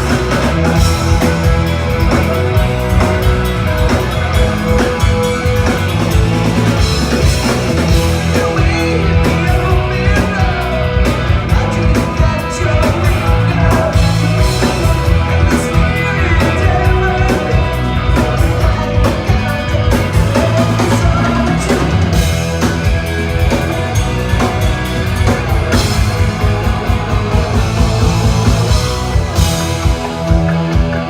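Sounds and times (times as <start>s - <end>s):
rock band playing loudly: 0.0s - 31.0s.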